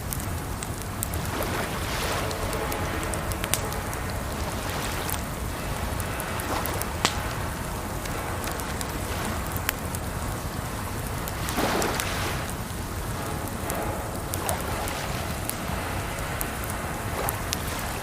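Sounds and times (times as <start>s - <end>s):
running water: 0.0s - 18.0s
wood fire crackling: 0.0s - 18.0s.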